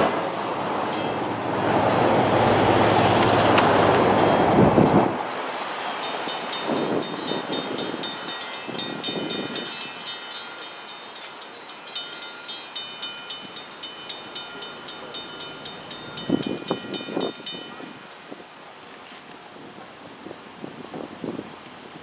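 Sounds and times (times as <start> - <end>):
train rumble: 0.0 - 21.9
crossing warning bell ringing: 0.5 - 18.3.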